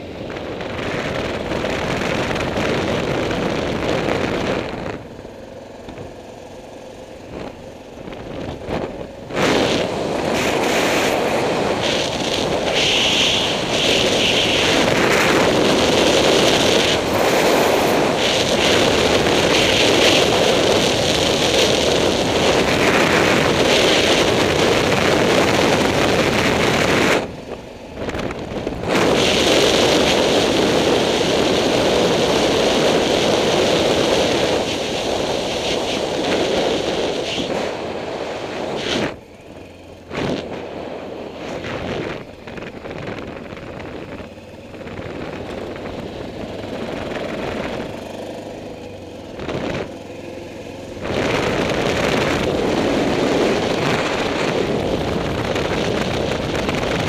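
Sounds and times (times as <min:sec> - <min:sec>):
wind rushing over microphone: 0:00.0 - 0:06.4, 0:07.1 - 0:57.0
motorcycle engine running: 0:00.0 - 0:57.0.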